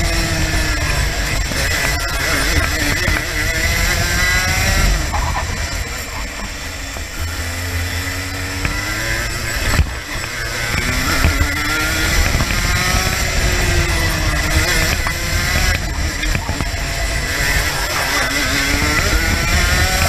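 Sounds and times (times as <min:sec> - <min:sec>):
kart engine revving: 0:00.0 - 0:20.0.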